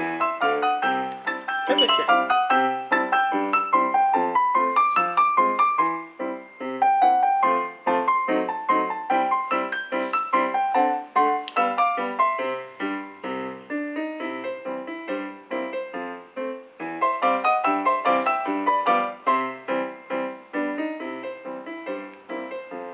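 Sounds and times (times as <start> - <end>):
piano run of notes: 0.0 - 22.9.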